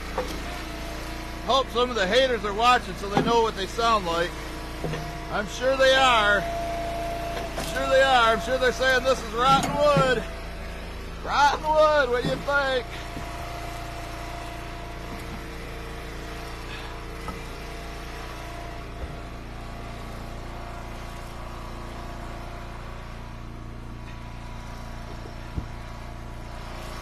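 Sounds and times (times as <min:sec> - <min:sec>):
log splitter gas engine running: 0:00.0 - 0:27.0.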